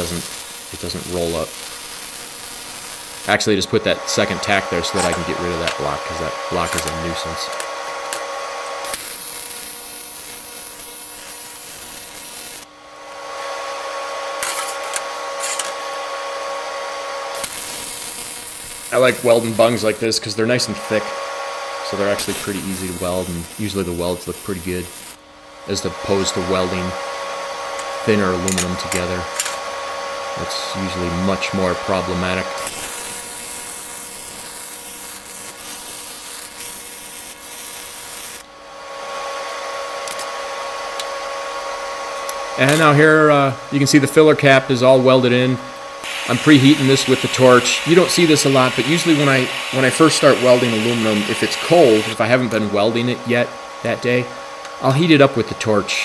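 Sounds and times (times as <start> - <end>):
welding arc hissing: 0.0 - 12.7, 13.4 - 38.5, 42.2 - 53.5
steady hum: 0.0 - 56.0.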